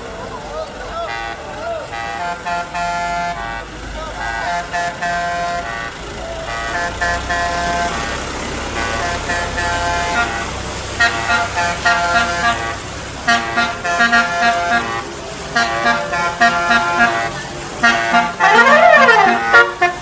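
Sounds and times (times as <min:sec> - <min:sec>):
low engine rumble: 0:00.0 - 0:20.0
bus musical horn playing tune: 0:00.9 - 0:20.0.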